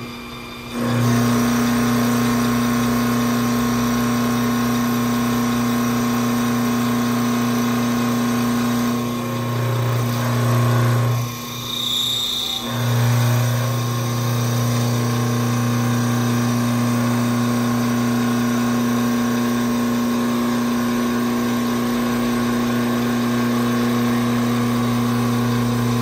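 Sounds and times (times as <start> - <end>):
lathe motor hum: 0.0 - 26.0.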